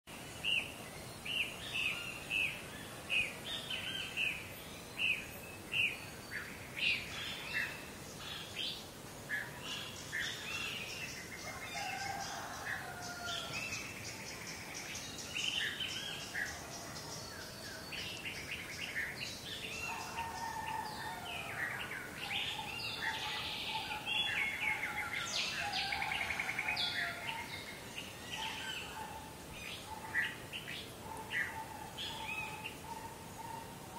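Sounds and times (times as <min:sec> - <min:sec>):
faint outdoor hiss: 0:00.1 - 0:33.9
birds chirping and singing: 0:00.4 - 0:33.9
low held bird calls: 0:00.5 - 0:33.9.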